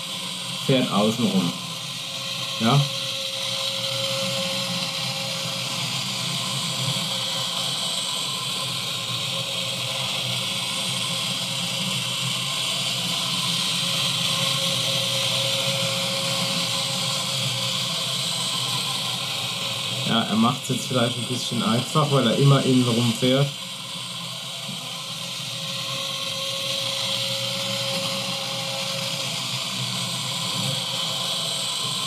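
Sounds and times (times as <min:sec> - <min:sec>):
small electric motors whirring: 0:00.0 - 0:32.0.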